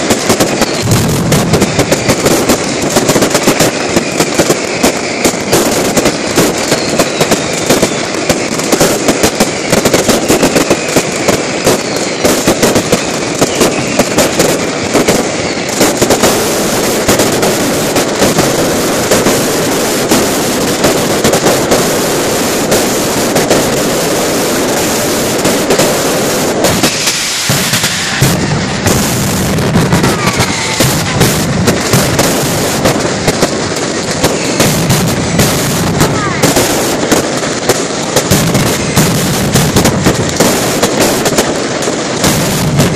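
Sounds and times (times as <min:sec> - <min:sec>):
deep firework bangs: 0:00.0 - 0:42.9
firecrackers rattling: 0:00.0 - 0:42.9
firework whistles: 0:00.0 - 0:42.9.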